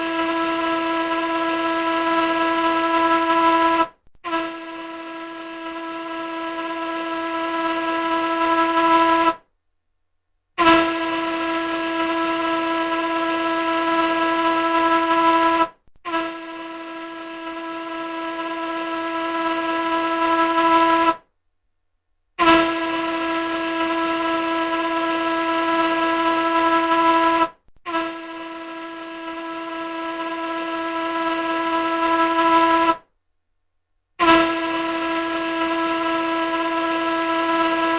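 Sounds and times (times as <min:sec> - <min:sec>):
ship's horn blasts: 0:00.0 - 0:09.5, 0:10.6 - 0:21.3, 0:22.4 - 0:33.1, 0:34.2 - 0:37.9.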